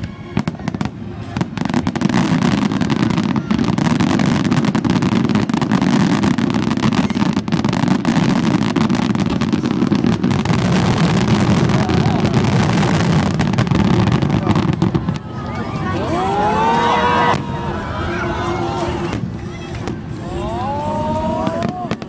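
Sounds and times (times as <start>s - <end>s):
fireworks bursts rumbling: 0.0s - 22.0s.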